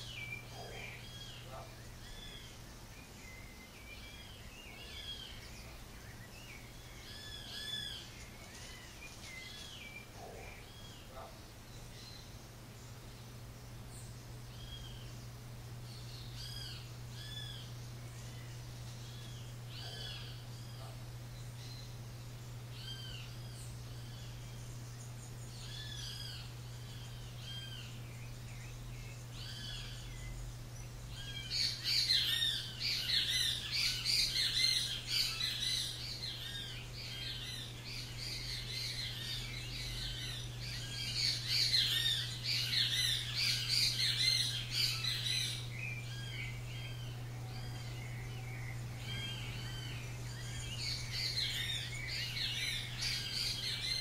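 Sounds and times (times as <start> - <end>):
birds chirping: 0.0 - 54.0
low hum: 0.0 - 54.0.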